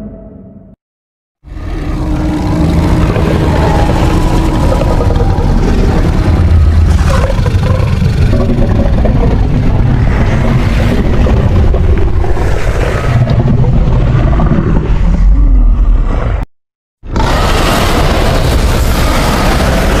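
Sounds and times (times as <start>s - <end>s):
deep rumbling monster roar: 1.4s - 16.4s, 17.0s - 20.0s.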